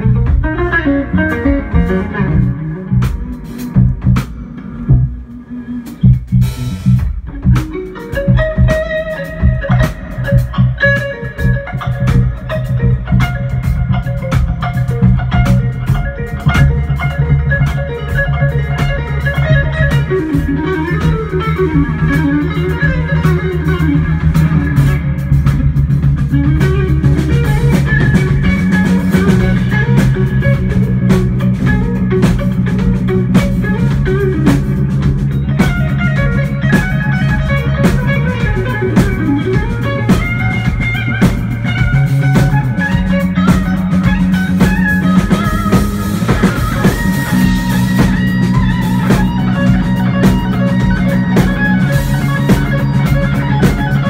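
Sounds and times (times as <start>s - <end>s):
drum kit: 0.0s - 54.0s
electric bass: 0.0s - 54.0s
electric guitar lines: 0.0s - 54.0s.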